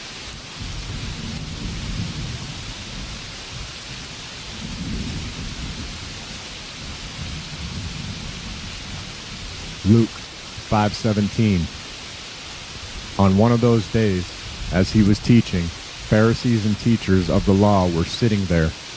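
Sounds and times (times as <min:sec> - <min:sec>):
steady rainfall: 0:00.0 - 0:18.9
low thunder rumbling: 0:00.5 - 0:18.8.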